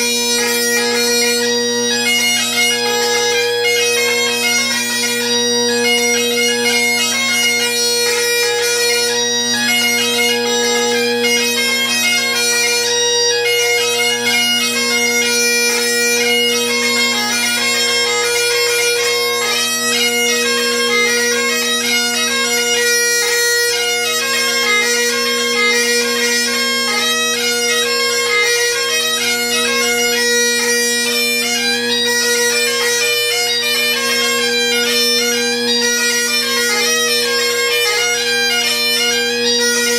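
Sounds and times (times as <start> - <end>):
bagpipe chanter melody: 0.0 - 39.9
bagpipe drones humming: 0.0 - 39.9.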